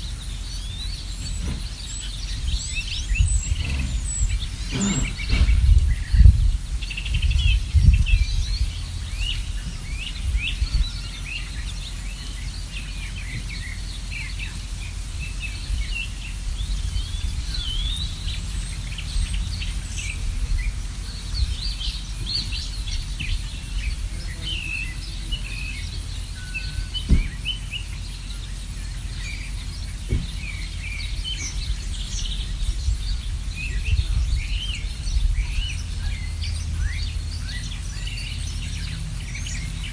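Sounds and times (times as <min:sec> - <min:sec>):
low rumble: 0:00.0 - 0:39.9
small birds chirping: 0:00.0 - 0:39.9.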